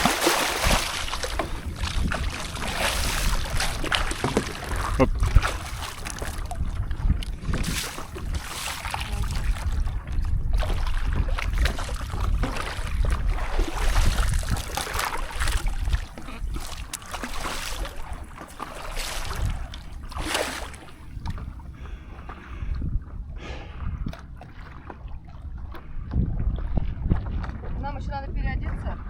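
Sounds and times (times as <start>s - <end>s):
water splashing around paddleboard: 0.0s - 28.1s
wind buffeting microphone: 0.0s - 29.0s.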